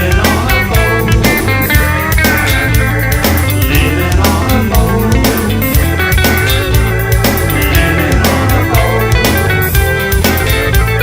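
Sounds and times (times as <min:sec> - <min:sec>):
bass guitar: 0:00.0 - 0:11.0
drum kit beat: 0:00.0 - 0:11.0
electric guitar line: 0:00.0 - 0:11.0.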